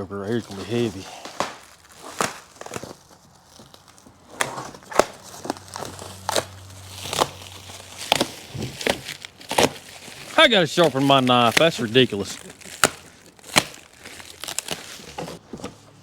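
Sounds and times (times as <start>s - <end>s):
packaging wrap tearing and crinkling: 0.2s - 15.4s
knife cutting packaging wrap: 0.3s - 15.4s.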